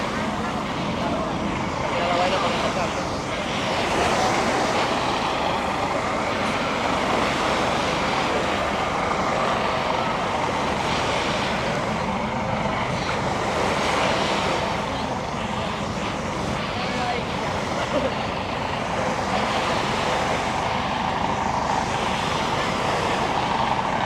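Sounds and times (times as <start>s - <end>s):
constant beach rush: 0.0s - 24.0s
faint voices: 0.0s - 24.0s.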